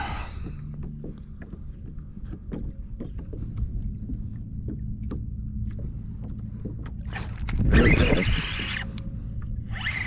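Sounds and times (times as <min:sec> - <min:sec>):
water and wind rumble: 0:00.0 - 0:10.0.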